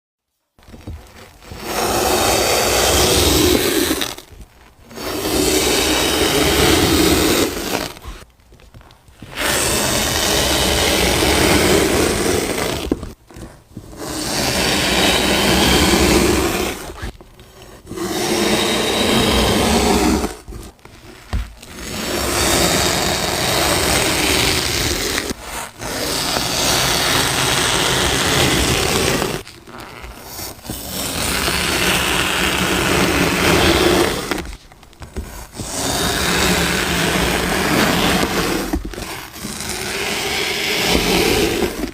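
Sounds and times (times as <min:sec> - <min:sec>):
blade slicing kinetic sand: 0:01.3 - 0:08.3, 0:09.2 - 0:20.8, 0:21.5 - 0:29.5, 0:30.2 - 0:41.9.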